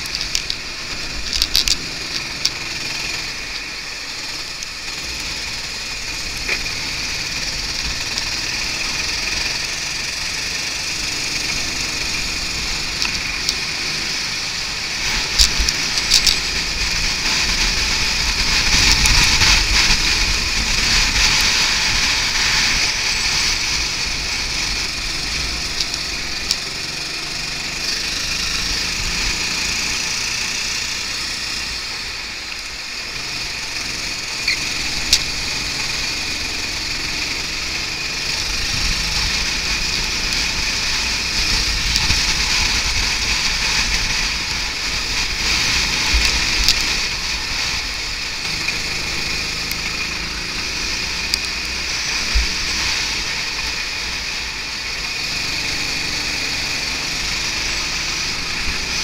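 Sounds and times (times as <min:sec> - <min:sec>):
go-kart engine running: 0:00.0 - 0:59.0
road noise: 0:00.0 - 0:59.0
rushing wind: 0:00.0 - 0:59.0.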